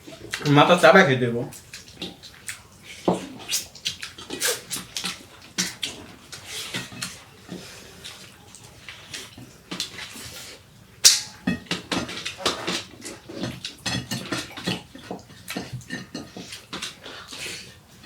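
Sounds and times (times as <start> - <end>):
wet chewing and slurping: 1.6 - 10.7, 11.7 - 17.8.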